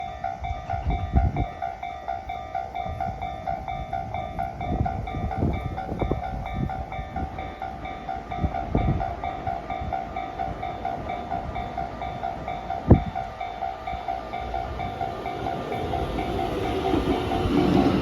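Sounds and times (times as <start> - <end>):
level crossing warning bell: 0.0 - 18.0
train rumble: 0.0 - 18.0.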